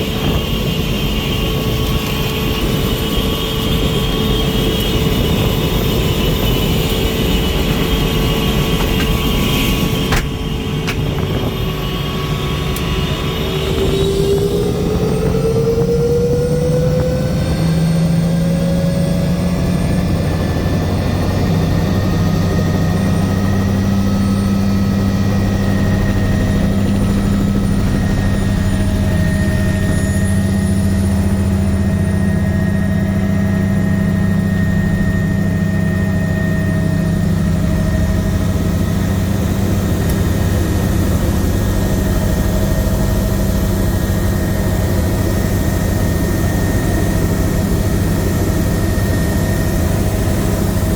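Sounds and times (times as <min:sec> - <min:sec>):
helicopter turbine and rotors droning: 0:00.0 - 0:50.9.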